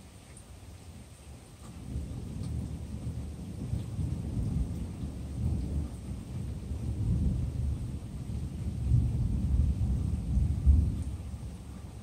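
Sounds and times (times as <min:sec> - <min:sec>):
light rain: 0:00.0 - 0:12.0
thunder rumbling: 0:01.8 - 0:12.0.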